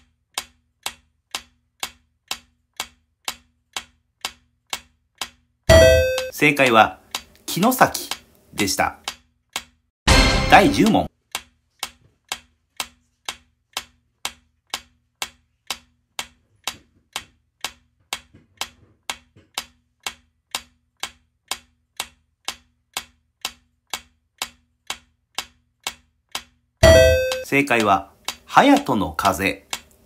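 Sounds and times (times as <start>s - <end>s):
clock-like ticking: 0.0s - 30.0s.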